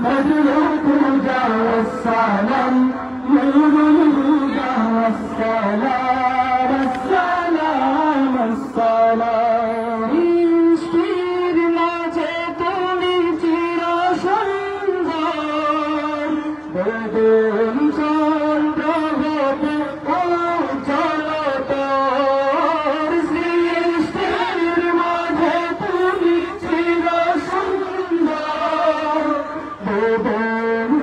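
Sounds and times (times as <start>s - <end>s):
person singing devotional song: 0.0s - 31.0s.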